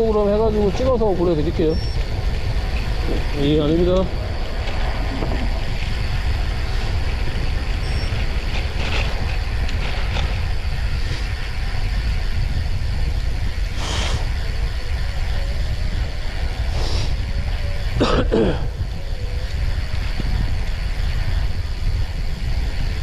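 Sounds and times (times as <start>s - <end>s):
vehicle rumble with road noise: 0.0s - 23.0s.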